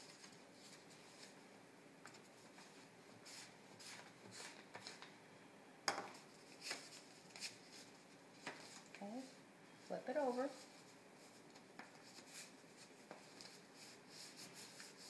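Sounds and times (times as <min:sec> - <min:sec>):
paper rustling and rubbing: 0:00.0 - 0:01.4, 0:02.1 - 0:05.1, 0:06.2 - 0:15.0.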